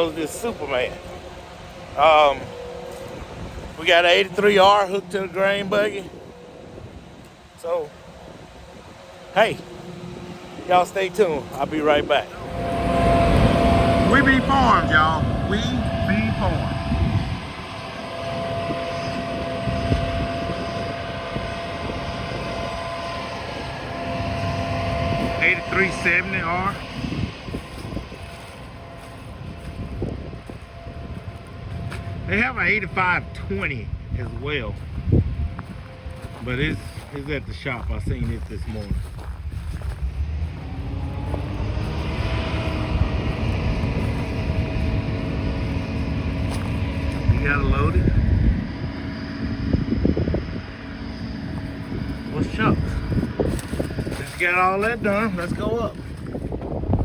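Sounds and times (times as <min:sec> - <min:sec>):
farm machinery engine drone: 0:00.0 - 0:57.0
thin constant whine: 0:00.0 - 0:57.0.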